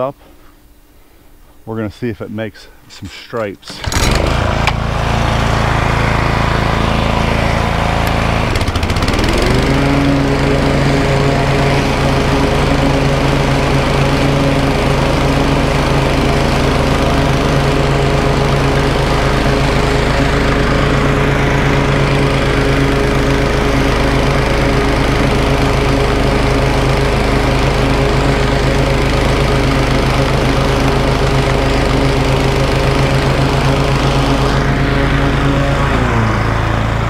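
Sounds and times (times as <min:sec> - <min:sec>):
lawn mower engine running: 0:03.6 - 0:37.0.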